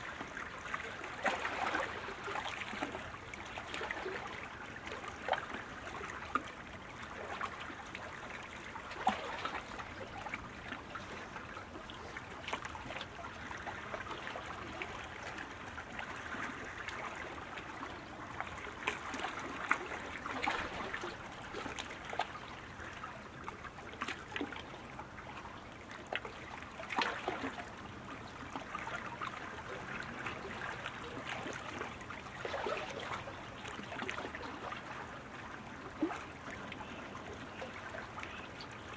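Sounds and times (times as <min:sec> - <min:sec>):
paddles splashing water: 0:00.0 - 0:38.9.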